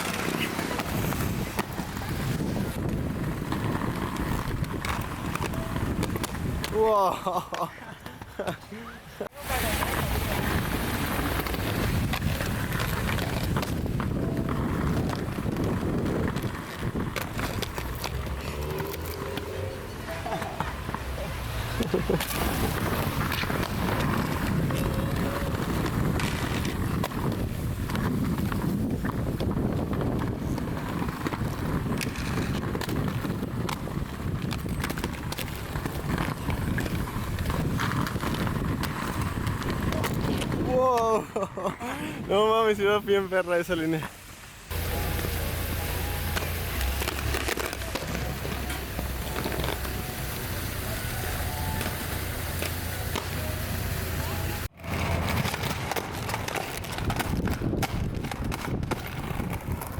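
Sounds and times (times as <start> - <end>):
wind buffeting microphone: 0.0 - 7.0, 9.4 - 20.1, 21.4 - 42.3, 44.7 - 59.9
wheels rolling over pavement: 0.0 - 59.9.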